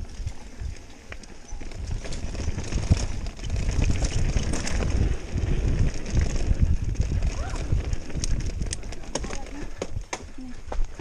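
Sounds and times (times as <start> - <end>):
wind buffeting microphone: 0.0 - 11.0
tyres rumbling on dirt: 0.3 - 9.8
bike knocks and rattles: 1.2 - 10.4.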